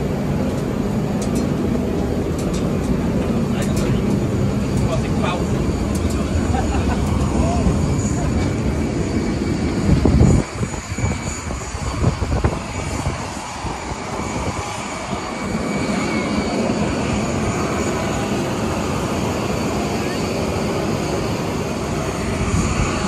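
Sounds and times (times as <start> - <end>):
heavy low rumble: 0.0 - 19.8
jet engines whining: 0.0 - 23.0.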